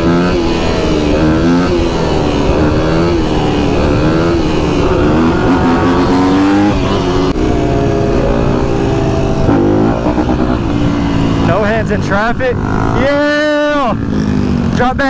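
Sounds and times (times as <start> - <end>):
vehicle engines revving in traffic: 0.0 - 15.0.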